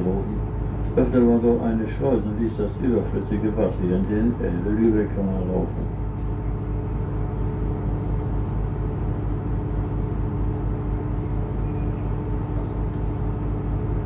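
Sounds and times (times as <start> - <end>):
boat engine throbbing: 0.0 - 14.0.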